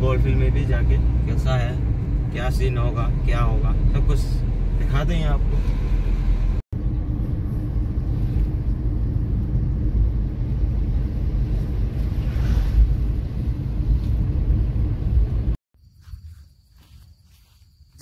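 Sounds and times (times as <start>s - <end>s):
car engine rumble: 0.0s - 15.6s
road noise: 0.0s - 18.0s.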